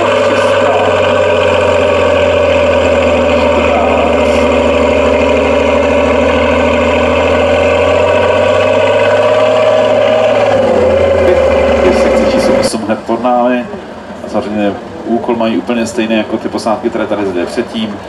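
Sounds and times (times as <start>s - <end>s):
truck diesel engine under load: 0.0s - 18.0s.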